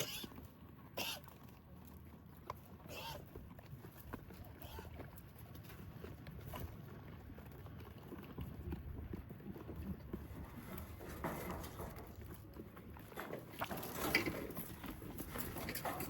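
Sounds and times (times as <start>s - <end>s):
goats feeding knocks and shuffling: 0.0s - 16.0s.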